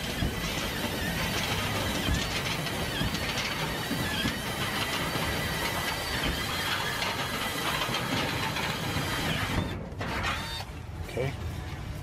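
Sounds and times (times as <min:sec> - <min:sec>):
cordless drill boring through metal: 0:00.0 - 0:10.7.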